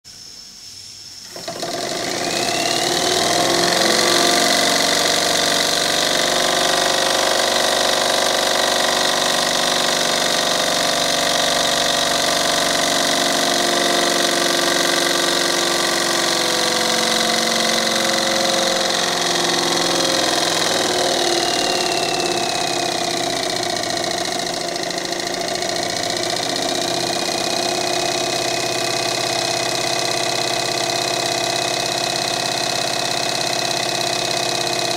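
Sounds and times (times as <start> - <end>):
steam engine whirring: 1.2 - 34.9.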